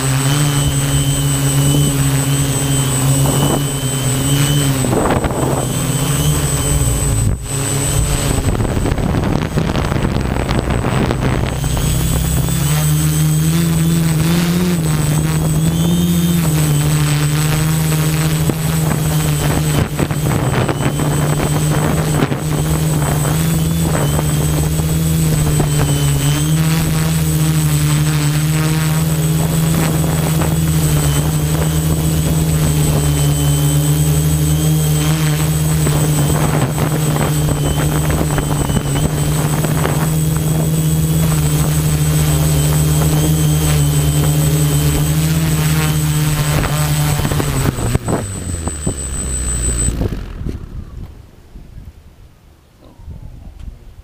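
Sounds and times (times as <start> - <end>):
drone propellers buzzing: 0.0 - 51.5
high-pitched whine: 0.0 - 51.5.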